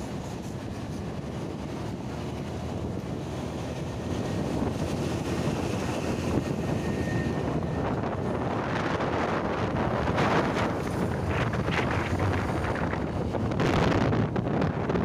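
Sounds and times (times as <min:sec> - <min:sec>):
road and engine rumble: 0:00.0 - 0:15.0
wind buffeting microphone: 0:00.0 - 0:15.0.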